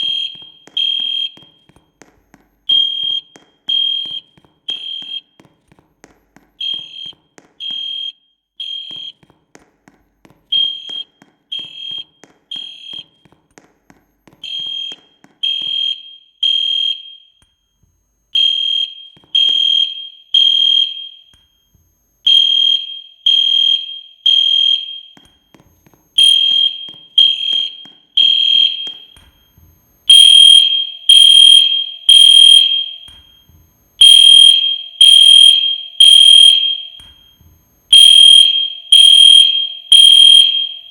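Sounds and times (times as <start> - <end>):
fire alarm beeps: 0.0 - 1.8, 2.6 - 5.4, 6.6 - 9.3, 10.4 - 13.4, 14.2 - 40.9.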